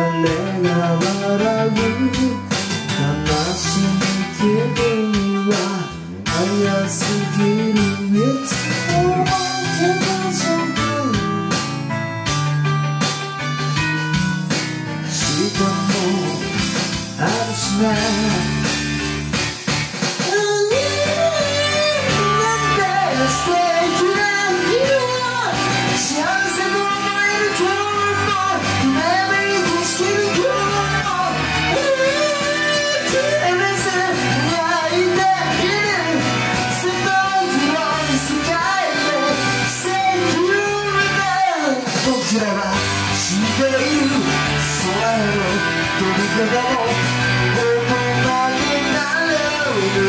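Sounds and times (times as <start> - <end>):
man singing into microphone: 0.0 - 11.7, 14.9 - 19.1, 20.2 - 50.0
karaoke backing track: 0.0 - 50.0.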